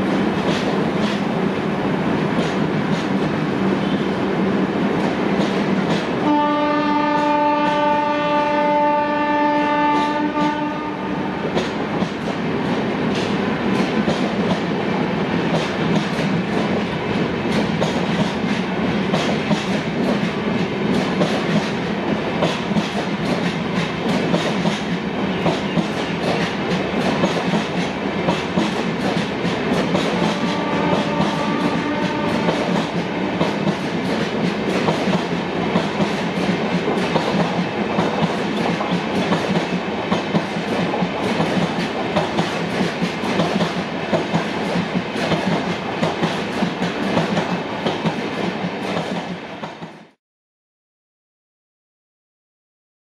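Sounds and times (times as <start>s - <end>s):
train wheels clickety-clack: 0.0s - 50.2s.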